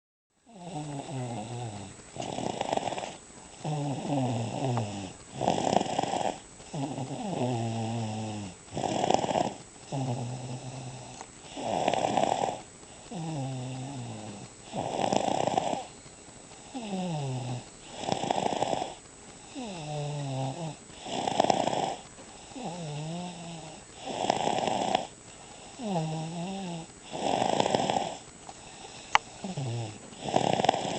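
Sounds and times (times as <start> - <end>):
person snoring: 0.5 - 15.9, 16.6 - 30.9.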